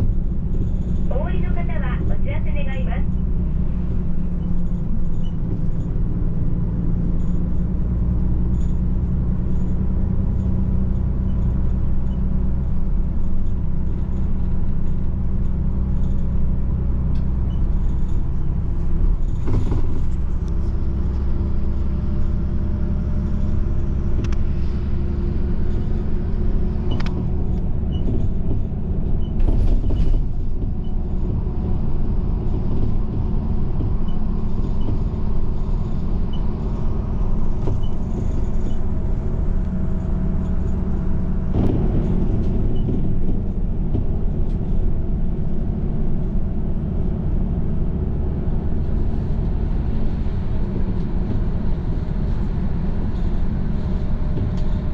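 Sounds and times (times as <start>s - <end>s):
bus engine and road drone: 0.0s - 54.9s.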